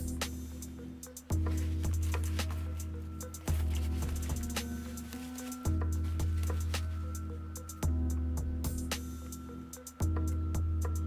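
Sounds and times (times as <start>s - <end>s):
background music with deep bass: 0.0s - 11.0s.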